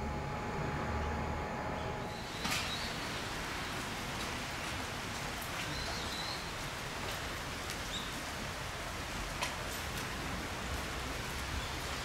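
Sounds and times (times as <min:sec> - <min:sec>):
steady hiss: 0:01.6 - 0:12.0.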